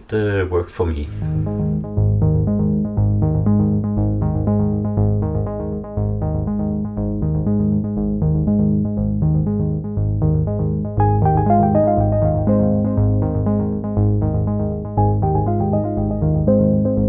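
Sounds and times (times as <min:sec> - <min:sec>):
synthesizer and keyboard music: 0:01.1 - 0:17.0
repeating bass pattern: 0:01.2 - 0:17.0.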